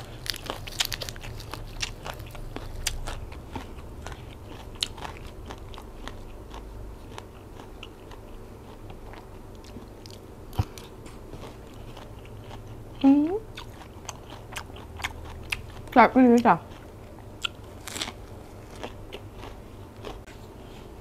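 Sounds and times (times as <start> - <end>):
chewing and crunching salad: 0.0 - 21.0.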